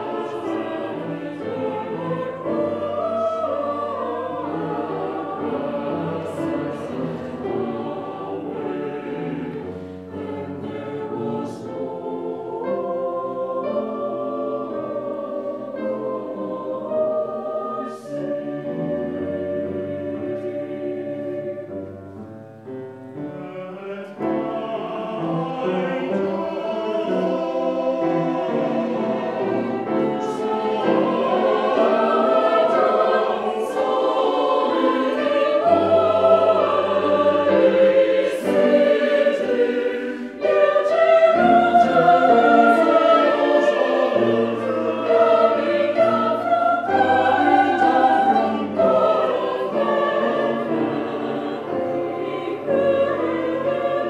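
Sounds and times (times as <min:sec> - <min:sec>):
choir singing in harmony: 0:00.0 - 0:54.0.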